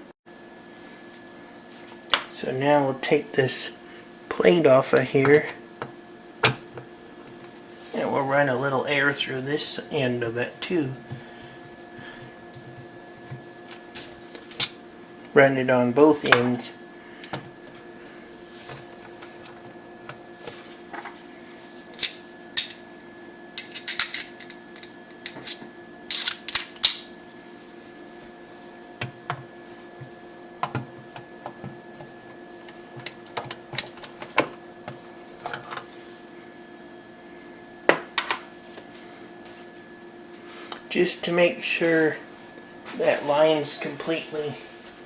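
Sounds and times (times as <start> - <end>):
steady faint hum: 0.8 - 45.0.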